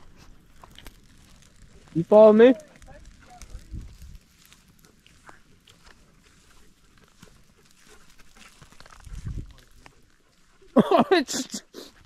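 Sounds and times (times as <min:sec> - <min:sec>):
footsteps on twigs and dry leaves: 0:00.0 - 0:11.3
brush rustling: 0:00.0 - 0:12.0.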